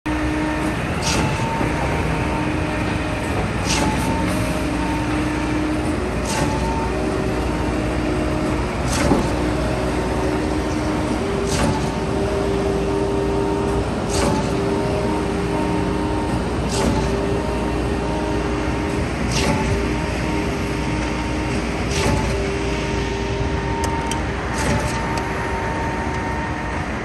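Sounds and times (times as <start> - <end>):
diesel truck engine running: 0.1 - 27.0.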